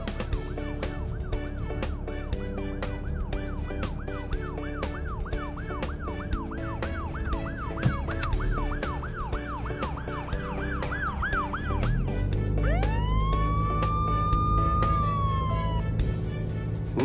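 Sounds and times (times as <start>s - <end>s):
background music with beat: 0.0s - 17.0s
fire engine siren warbling: 0.1s - 17.0s.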